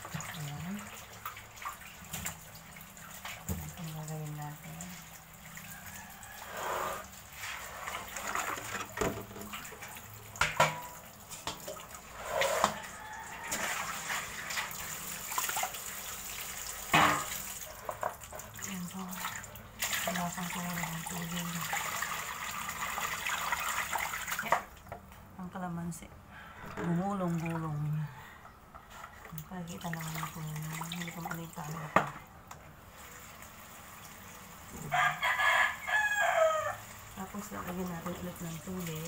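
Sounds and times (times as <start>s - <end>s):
tap water running into basin: 0.0s - 25.2s, 28.8s - 39.0s.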